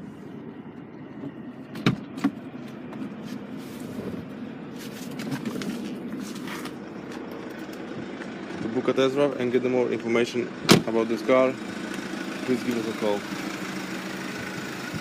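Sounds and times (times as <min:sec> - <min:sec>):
steady low rumble: 0:00.0 - 0:12.3.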